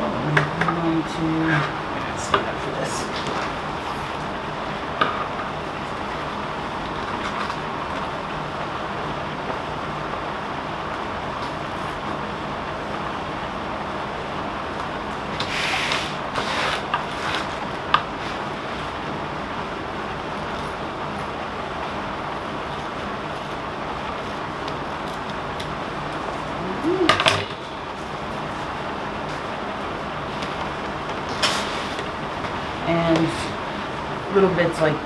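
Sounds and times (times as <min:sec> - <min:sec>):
background hum and hiss: 0:00.0 - 0:35.0.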